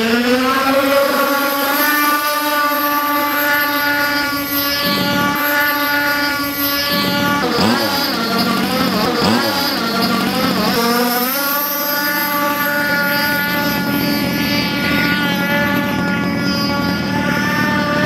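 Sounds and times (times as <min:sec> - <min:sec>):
rc boat motor whine: 0:00.0 - 0:18.0.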